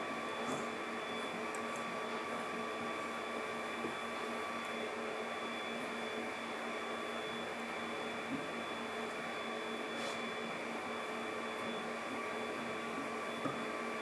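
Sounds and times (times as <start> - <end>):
machine humming with a whine: 0.0 - 14.0.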